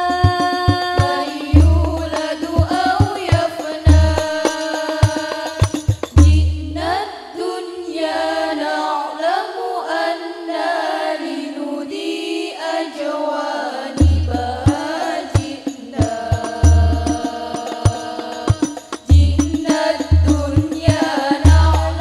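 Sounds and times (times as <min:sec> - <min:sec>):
girls singing through pa system: 0:00.0 - 0:22.0.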